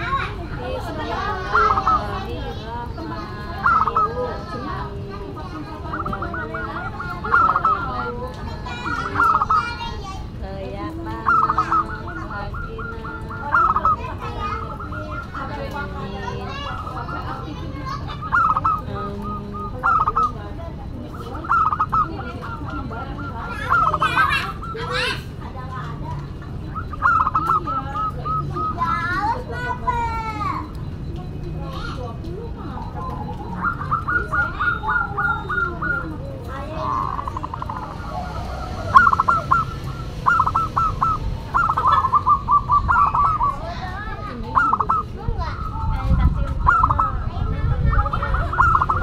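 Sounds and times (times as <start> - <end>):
dove cooing: 0.0 - 49.0.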